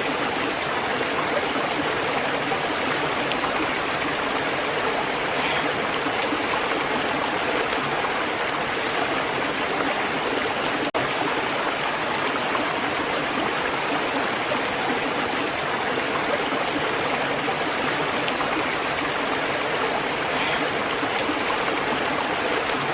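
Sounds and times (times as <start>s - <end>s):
running water flowing: 0.0s - 22.9s.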